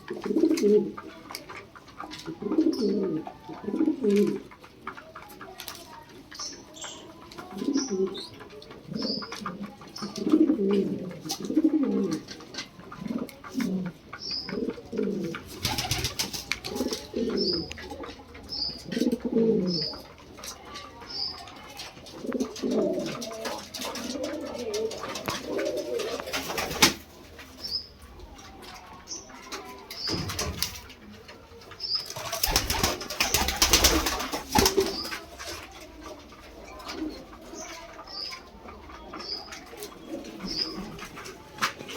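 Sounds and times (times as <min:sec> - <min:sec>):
pigeons cooing: 0:00.0 - 0:41.9.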